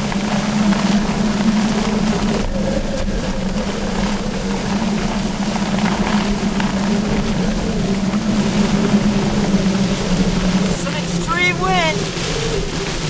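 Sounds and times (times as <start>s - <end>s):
low hum: 0.0s - 13.0s
strong wind on microphone: 0.0s - 13.0s.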